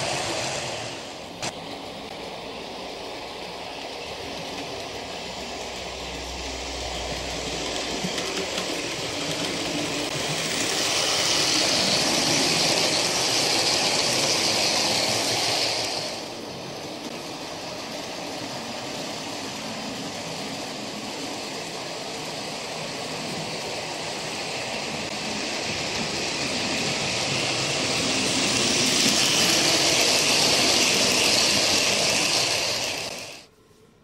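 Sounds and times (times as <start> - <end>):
model train whirring on rails: 0.0 - 33.5.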